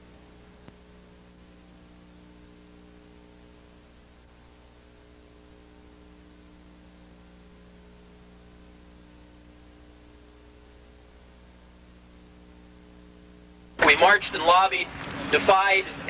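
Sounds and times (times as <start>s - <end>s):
electrical mains hum: 0.0s - 16.0s
low tape hiss: 0.0s - 16.0s.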